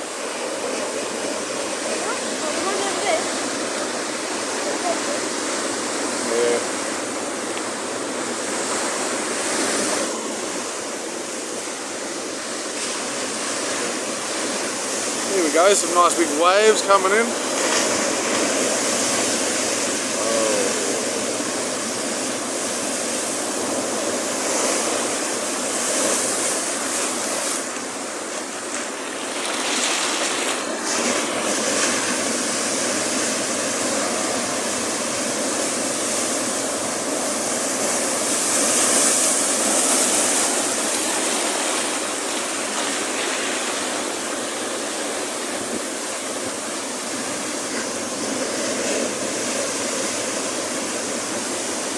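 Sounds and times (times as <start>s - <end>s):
ocean waves breaking on rocks: 0.0s - 51.9s.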